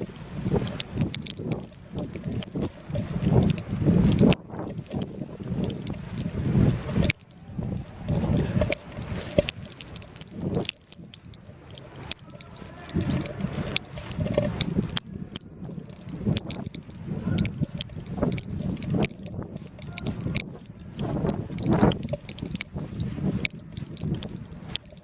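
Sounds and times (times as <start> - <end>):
wind buffeting microphone: 0.0 - 9.4, 12.4 - 24.7
small clicks: 0.0 - 25.0.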